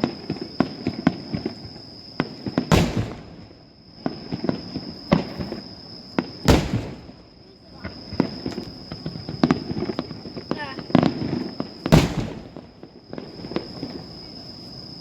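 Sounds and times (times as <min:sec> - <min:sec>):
fireworks cracks and pops: 0:00.0 - 0:14.3
heavy firework booms: 0:00.0 - 0:14.4.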